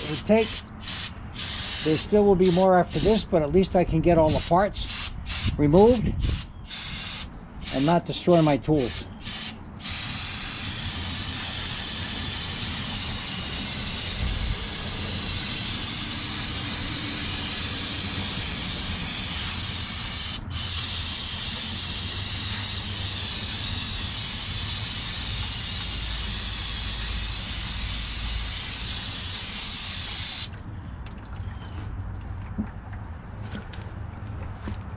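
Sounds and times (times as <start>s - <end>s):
hissing spray: 0.0s - 3.3s, 4.3s - 30.5s.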